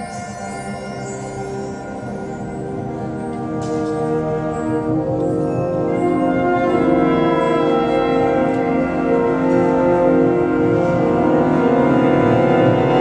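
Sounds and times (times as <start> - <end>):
wind ensemble sustained chords: 0.0 - 13.0.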